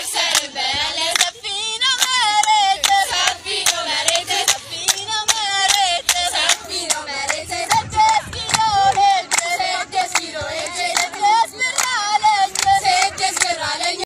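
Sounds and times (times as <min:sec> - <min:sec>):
girls singing together: 0:00.0 - 0:14.0
hands clapping: 0:00.2 - 0:00.5, 0:01.1 - 0:01.3, 0:02.0 - 0:14.0.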